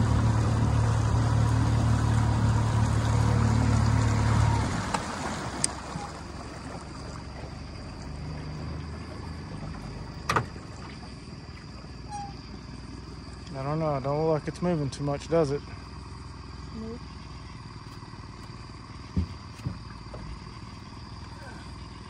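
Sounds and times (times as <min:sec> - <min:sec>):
background hum: 0:00.0 - 0:22.0
boat motor running: 0:00.0 - 0:22.0.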